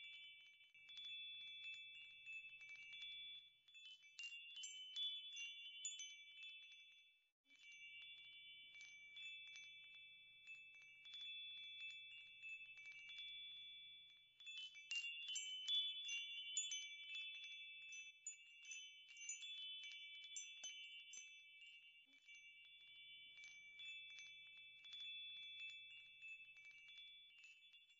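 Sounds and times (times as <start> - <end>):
faint wind chimes ringing: 0.0 - 27.9.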